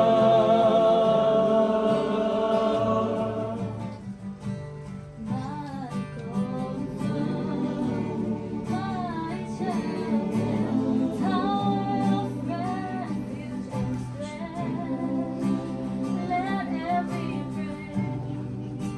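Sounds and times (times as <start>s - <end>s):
person singing: 0.0s - 3.8s, 5.3s - 18.9s
guitar accompaniment: 0.0s - 18.9s.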